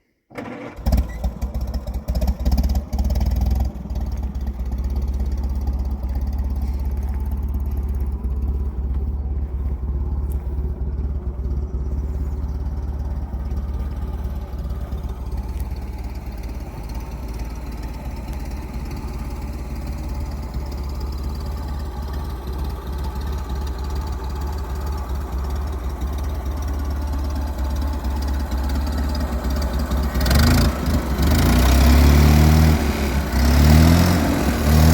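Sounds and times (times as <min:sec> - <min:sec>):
engine knocks: 0:00.4 - 0:32.3
truck engine idling: 0:00.7 - 0:34.9.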